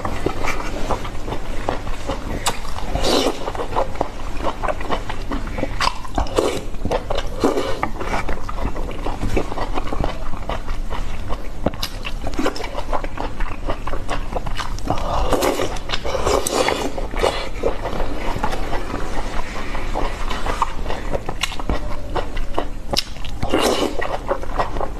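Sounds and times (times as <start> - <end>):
chewing and mouth smacking: 0.0 - 24.9.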